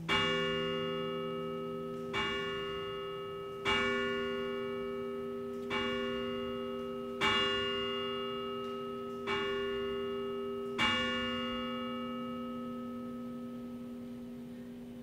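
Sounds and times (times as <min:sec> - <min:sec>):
church bell tolling: 0:00.0 - 0:15.0.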